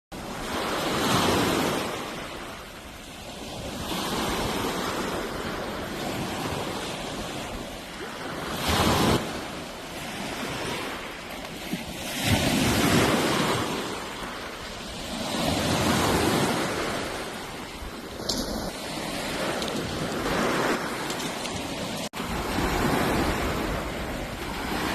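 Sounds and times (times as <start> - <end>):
sea waves washing in: 0.2 - 24.9.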